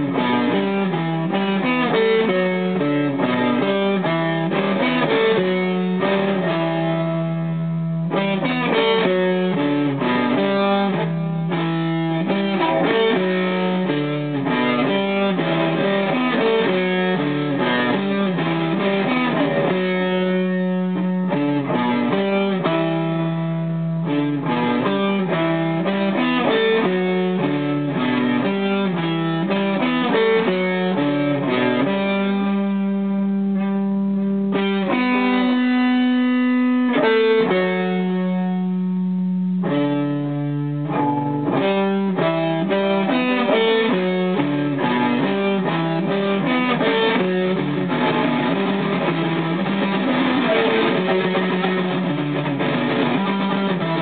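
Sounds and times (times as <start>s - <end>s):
electric guitar solo: 0.0s - 54.0s.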